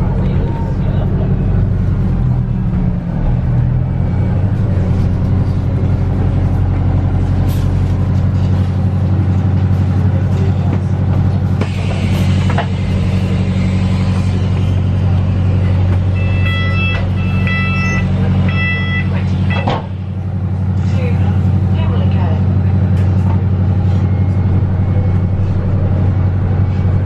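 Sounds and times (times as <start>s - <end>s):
bus engine hum: 0.0s - 27.0s
road noise: 0.0s - 27.0s.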